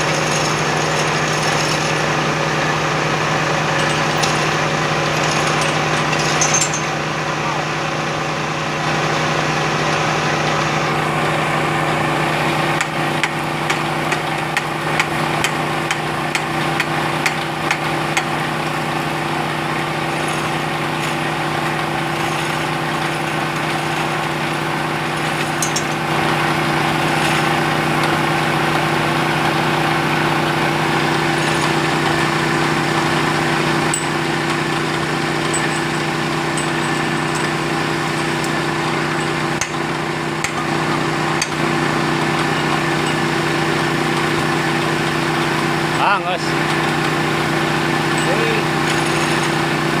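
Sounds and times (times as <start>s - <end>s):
drilling machine engine running: 0.0s - 50.0s.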